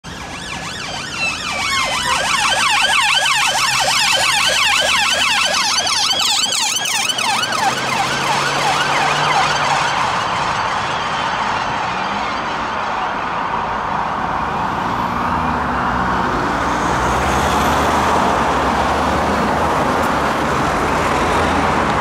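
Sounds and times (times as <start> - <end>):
police sirens yelping: 0.0 - 22.0.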